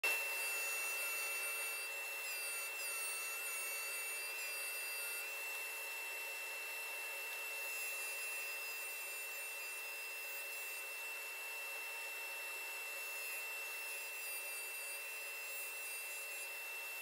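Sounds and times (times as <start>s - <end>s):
router bit whining: 0.0s - 17.0s.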